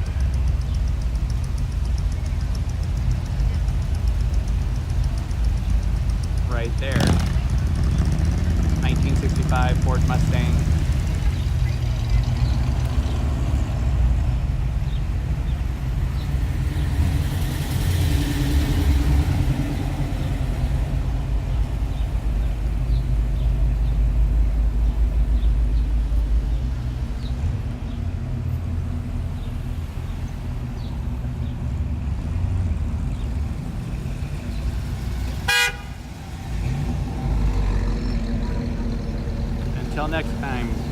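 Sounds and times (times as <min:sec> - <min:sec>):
cars driving slowly past: 0:00.0 - 0:40.9.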